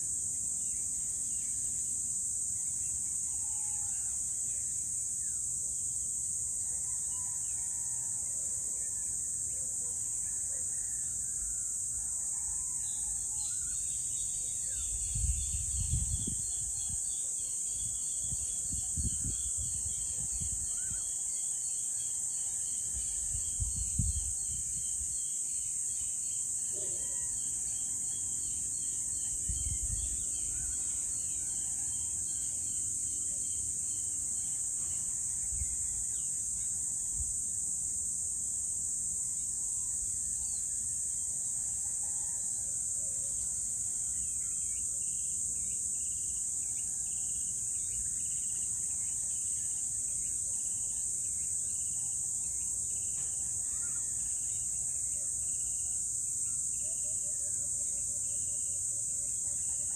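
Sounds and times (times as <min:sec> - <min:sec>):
high-pitched insect chorus: 0:00.0 - 0:59.9
short insect calls: 0:00.0 - 0:59.9.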